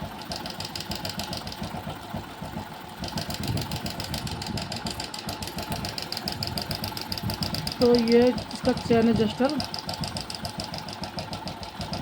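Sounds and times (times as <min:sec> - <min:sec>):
motorcycle engine idling: 0:00.0 - 0:12.0
fast metallic ticking: 0:00.1 - 0:01.9, 0:02.5 - 0:12.0.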